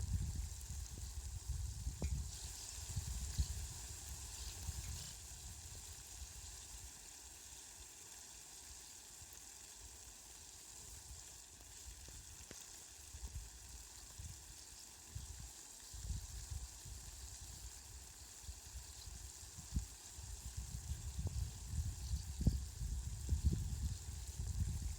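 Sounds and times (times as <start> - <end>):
falling rain hissing: 0.0 - 24.9.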